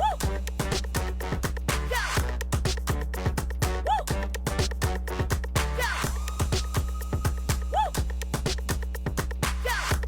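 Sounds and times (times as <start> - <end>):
deep kick drums: 0.0 - 10.0
electronic dance music: 0.0 - 10.0.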